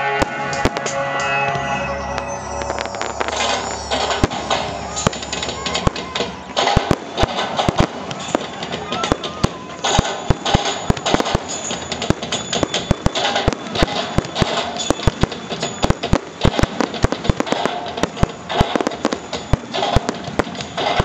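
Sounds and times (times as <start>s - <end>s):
crackling hiss: 0.0s - 21.0s
fireworks bursting: 0.0s - 21.0s.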